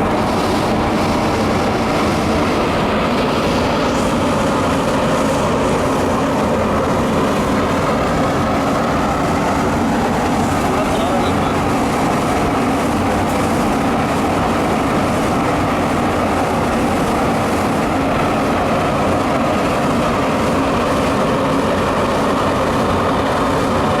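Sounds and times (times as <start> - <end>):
burner blower fan rushing: 0.0 - 24.0.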